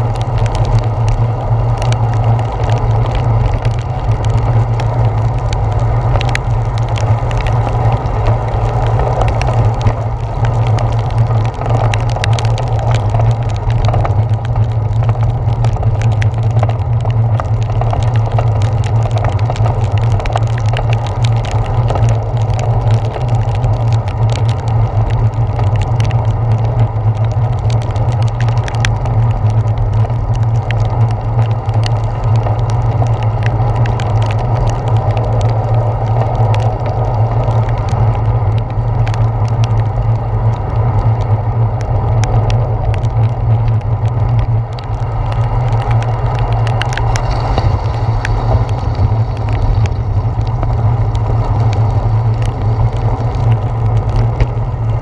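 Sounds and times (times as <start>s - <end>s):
raindrops striking camera: 0.0s - 55.0s
road vibration rumble: 0.0s - 55.0s
tyre hiss on wet pavement: 0.0s - 55.0s.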